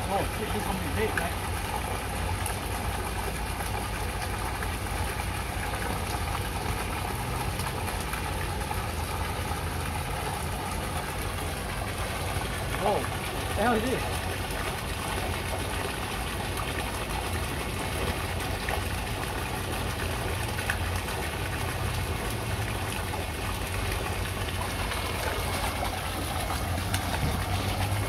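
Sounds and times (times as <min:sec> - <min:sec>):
low mechanical hum: 0:00.0 - 0:28.0
wash of noise: 0:00.0 - 0:28.0.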